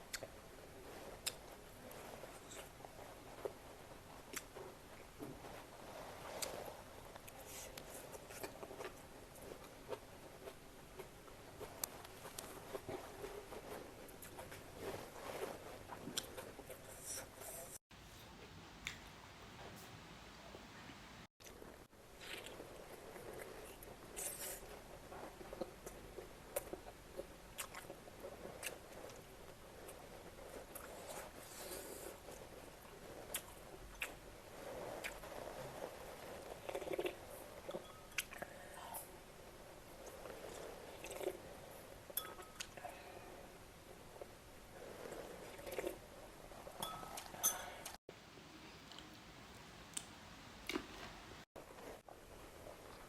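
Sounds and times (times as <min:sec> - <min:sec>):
soft eating sounds: 0:00.0 - 0:53.0.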